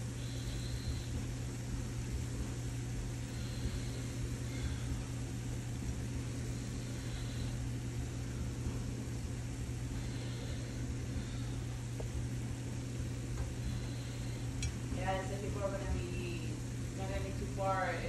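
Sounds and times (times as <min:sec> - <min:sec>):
motor humming with hiss: 0:00.0 - 0:18.0.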